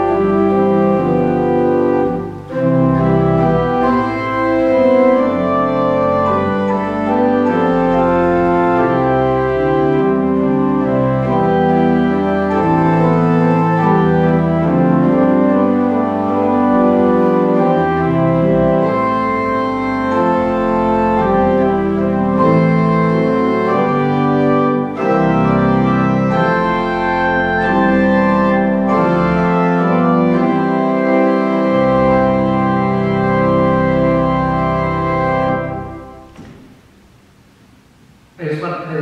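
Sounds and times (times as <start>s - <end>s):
church organ chords: 0.0s - 38.9s.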